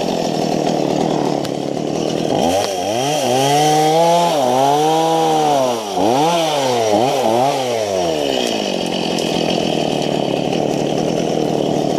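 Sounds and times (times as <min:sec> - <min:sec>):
chainsaw revving and idling: 0:00.0 - 0:11.9.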